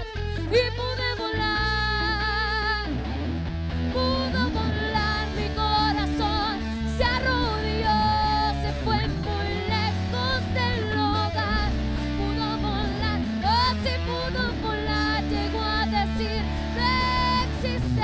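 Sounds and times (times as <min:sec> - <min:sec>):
woman singing: 0:00.0 - 0:03.1, 0:03.9 - 0:18.0
bass guitar: 0:00.0 - 0:18.0
electric guitar: 0:00.0 - 0:18.0.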